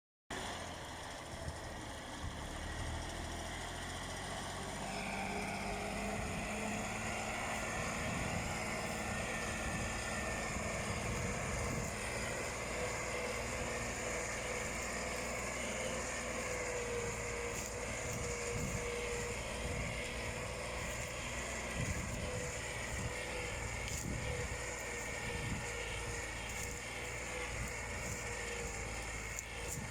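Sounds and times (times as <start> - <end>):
tractor engine revving: 0.3 - 29.9.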